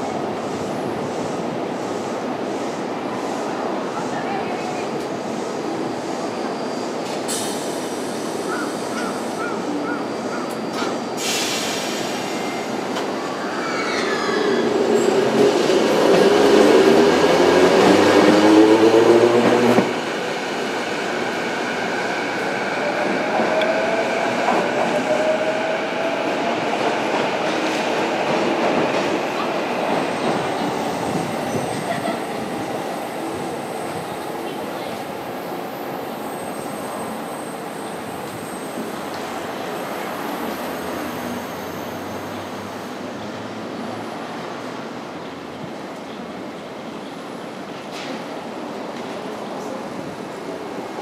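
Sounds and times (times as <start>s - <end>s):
rail and wheel noise: 0.0s - 51.0s.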